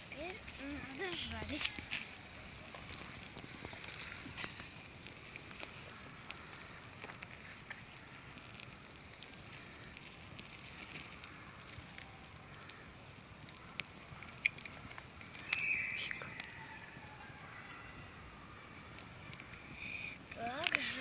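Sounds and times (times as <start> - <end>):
campfire crackling: 0.0 - 21.0
faint steady hiss: 0.0 - 21.0.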